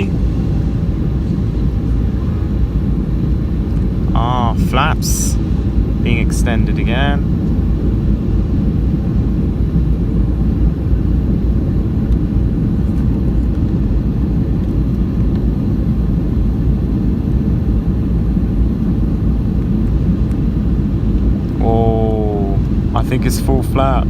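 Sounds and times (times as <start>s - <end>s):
airliner cabin roar: 0.0s - 24.0s.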